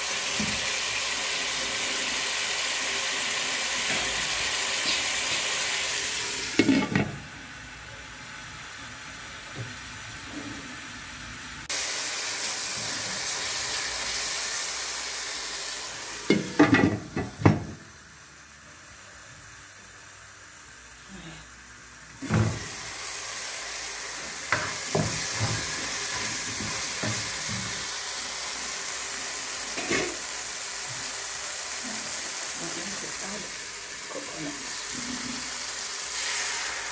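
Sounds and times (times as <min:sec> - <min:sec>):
vegetables sizzling in oil: 0:00.0 - 0:36.9.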